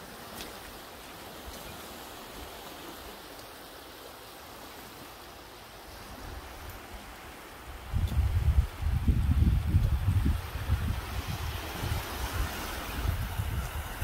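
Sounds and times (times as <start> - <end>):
small waves washing onto sand: 0.0 - 14.0.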